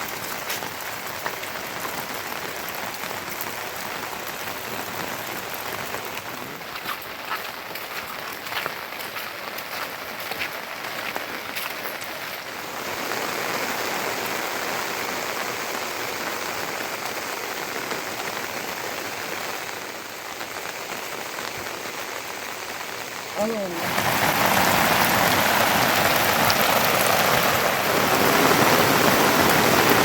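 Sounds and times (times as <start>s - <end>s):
steady rain patter: 0.0s - 30.0s.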